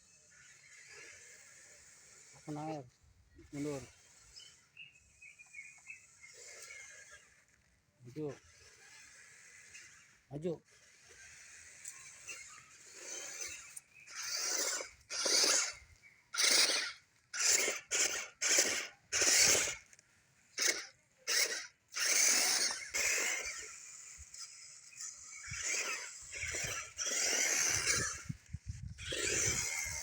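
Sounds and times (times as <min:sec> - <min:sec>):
rc car tyres churning ground: 0:00.0 - 0:30.0.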